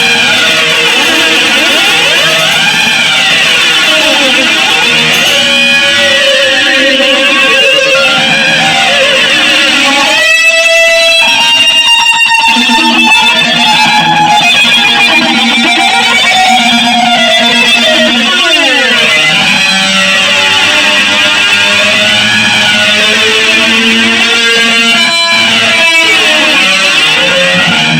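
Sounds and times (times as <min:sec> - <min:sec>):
electric guitar noise jam: 0:00.0 - 0:27.9.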